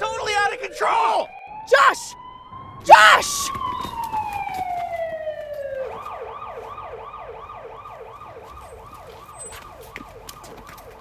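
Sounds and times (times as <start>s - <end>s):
emergency siren wailing and yelping: 0.0s - 11.0s.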